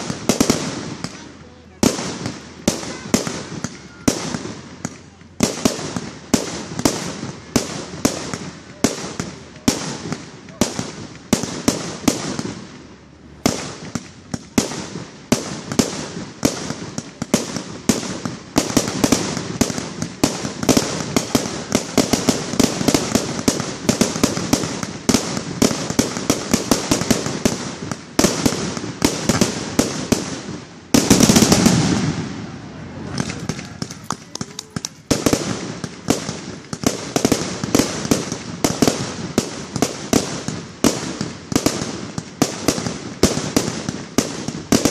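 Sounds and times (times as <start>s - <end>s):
deep firework burst: 0.0s - 44.9s
fireworks cracking and popping: 0.0s - 44.9s.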